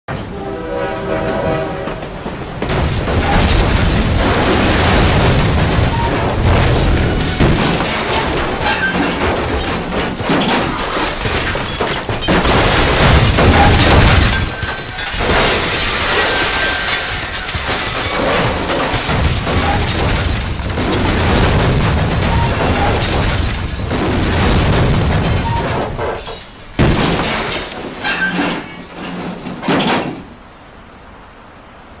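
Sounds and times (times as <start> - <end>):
train crash metal crashing: 0.1 - 30.6.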